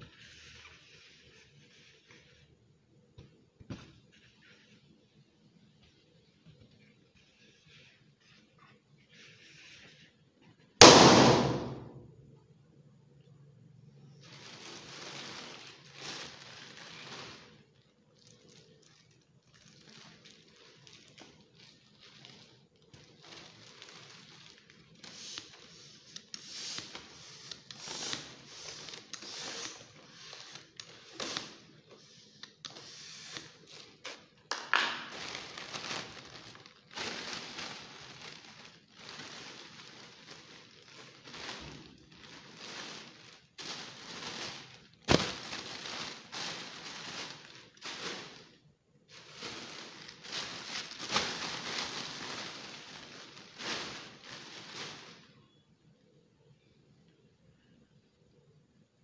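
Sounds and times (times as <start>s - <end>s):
foil balloon crinkling: 0.0s - 12.1s, 13.9s - 55.4s.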